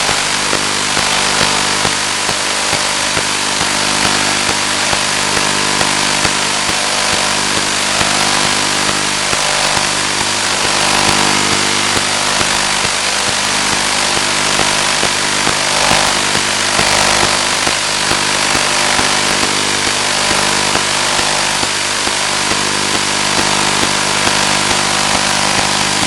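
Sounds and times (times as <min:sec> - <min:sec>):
buzzing hum: 0:00.0 - 0:26.0
loud hiss: 0:00.0 - 0:26.0.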